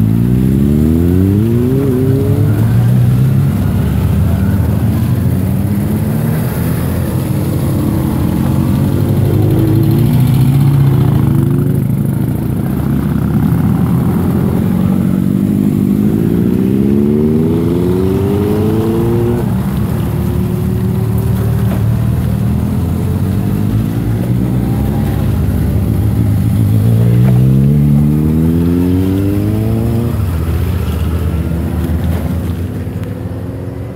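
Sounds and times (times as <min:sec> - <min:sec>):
motorcycles riding past: 0:00.0 - 0:33.9.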